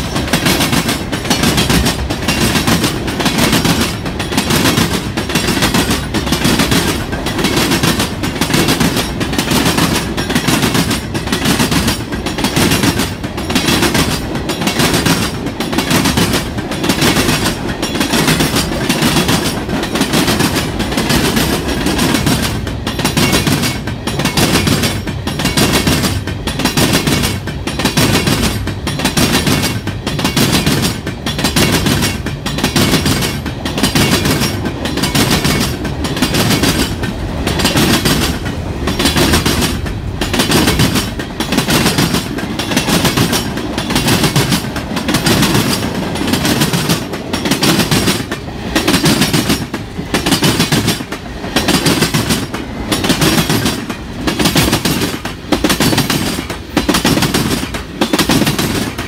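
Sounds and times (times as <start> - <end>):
freight cars rumbling: 0.0 - 59.0
wheels clacking over rail joints: 0.0 - 59.0.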